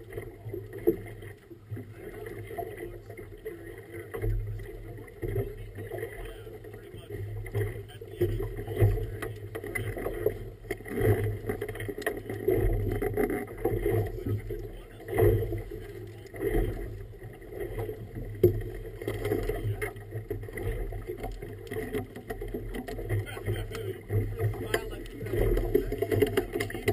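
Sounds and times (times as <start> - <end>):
low steady hum: 0.0 - 26.9
water slapping against hull: 0.0 - 26.9.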